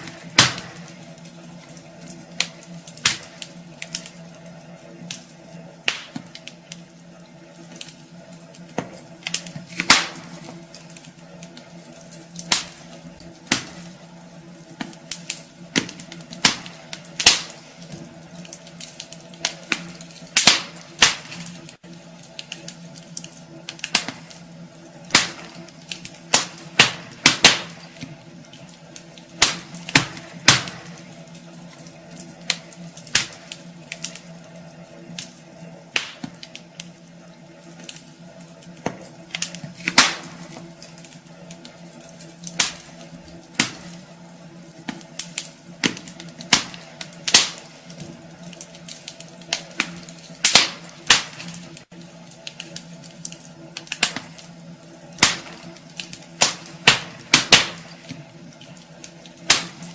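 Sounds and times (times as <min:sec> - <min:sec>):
steady low hum: 0:00.0 - 0:59.9
wood fire crackling: 0:00.0 - 0:59.9.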